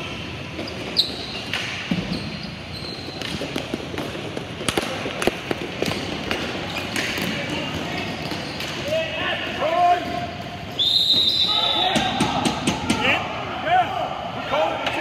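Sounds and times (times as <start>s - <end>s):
hockey sticks and ball clacking: 0.0s - 10.4s, 11.1s - 13.2s.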